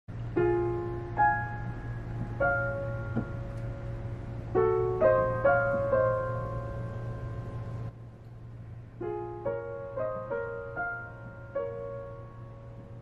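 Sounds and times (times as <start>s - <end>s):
low hum: 0.1s - 13.0s
slow piano: 0.1s - 13.0s.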